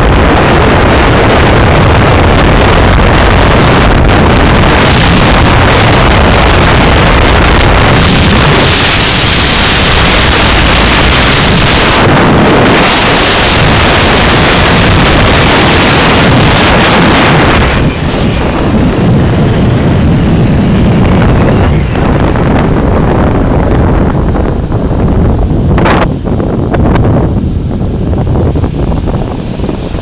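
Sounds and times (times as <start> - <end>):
heavy wind blasting microphone: 0.0 - 30.0.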